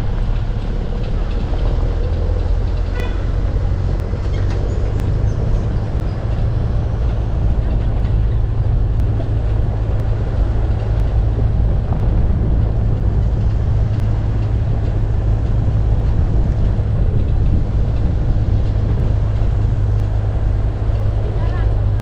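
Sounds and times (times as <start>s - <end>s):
van engine rumble: 0.0s - 22.0s
wind on microphone: 0.0s - 22.0s.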